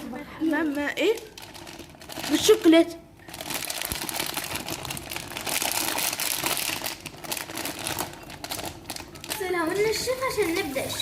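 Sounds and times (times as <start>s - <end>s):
packaging crinkling: 0.4s - 11.0s.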